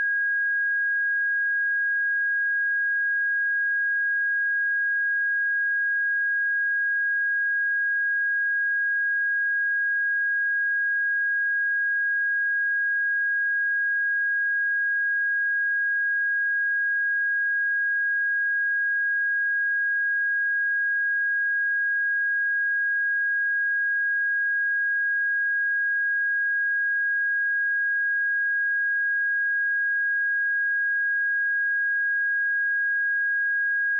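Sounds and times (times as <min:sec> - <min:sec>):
high sine-wave test tone: 0:00.0 - 0:33.9.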